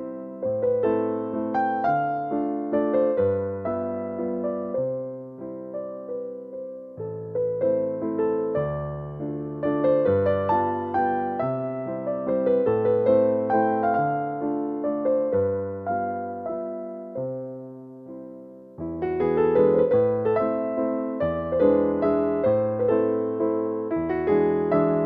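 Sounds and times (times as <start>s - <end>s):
gentle solo piano: 0.0s - 25.0s.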